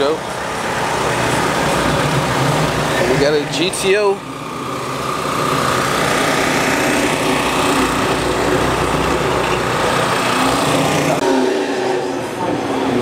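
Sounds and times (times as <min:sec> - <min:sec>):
steady high tone: 0:00.0 - 0:13.0.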